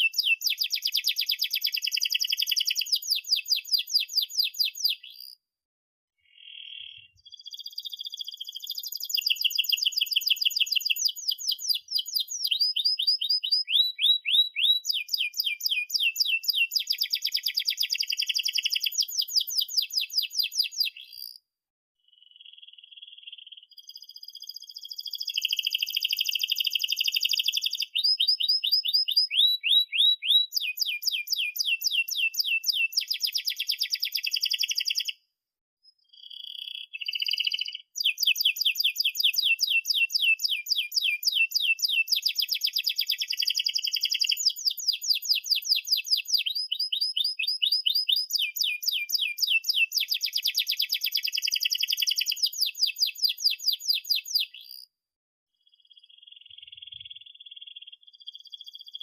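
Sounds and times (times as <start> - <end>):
canary singing: 0.0 - 5.4, 6.3 - 21.4, 22.4 - 35.2, 36.0 - 54.9.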